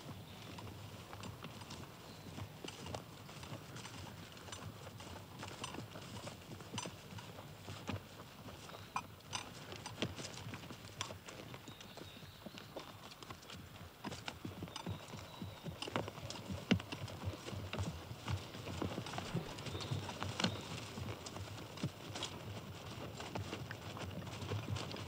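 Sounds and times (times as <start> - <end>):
horse hooves clopping: 0.0 - 25.0.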